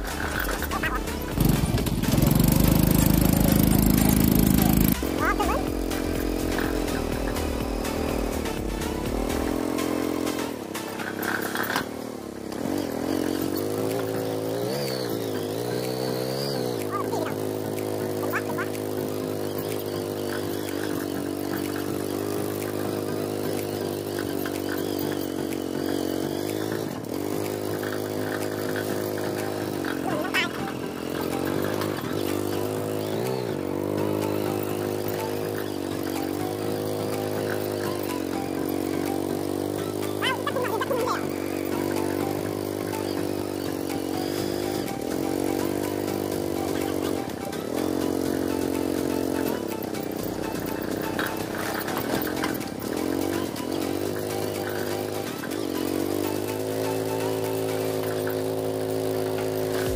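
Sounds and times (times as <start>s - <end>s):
small motorcycle engine revving: 0.0s - 59.9s.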